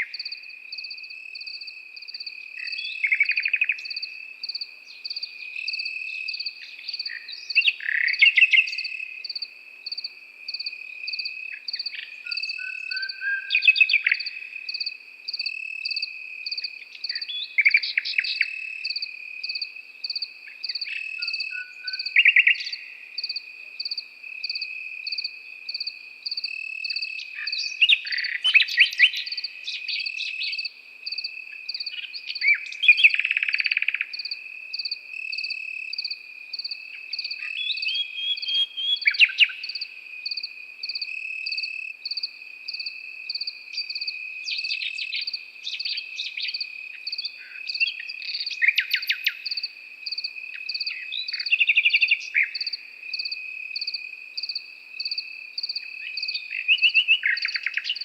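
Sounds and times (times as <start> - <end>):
crickets chirping: 0.0 - 58.0
nightingale singing: 0.0 - 58.0.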